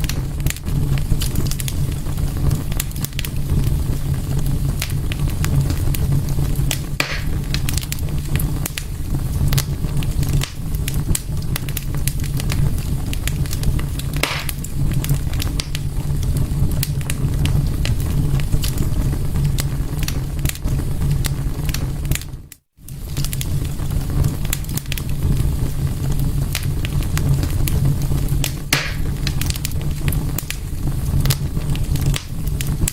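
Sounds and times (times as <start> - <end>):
fire crackles and pops: 0.0 - 32.9
fire low rumble: 0.0 - 32.9.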